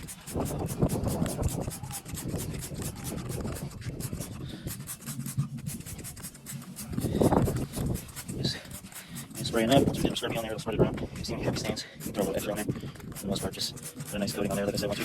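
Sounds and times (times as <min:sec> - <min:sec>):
spray bottle squirting: 0:00.0 - 0:10.6, 0:11.7 - 0:15.0
rubbing handling noise: 0:00.0 - 0:15.0.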